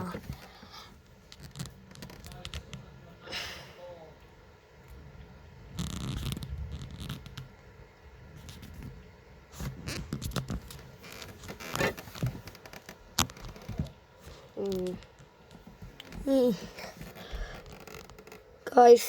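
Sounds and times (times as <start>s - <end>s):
rustling and scraping: 0.0s - 3.1s, 5.6s - 18.6s.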